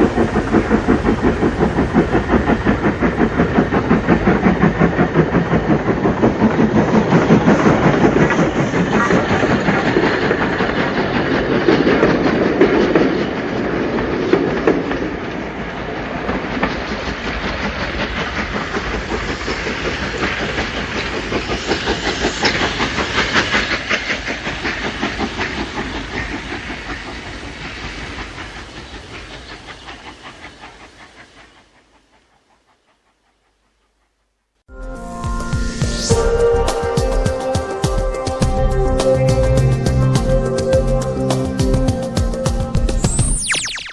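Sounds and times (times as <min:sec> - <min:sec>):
steam locomotive exhaust beat: 0:00.0 - 0:33.6, 0:34.7 - 0:43.5.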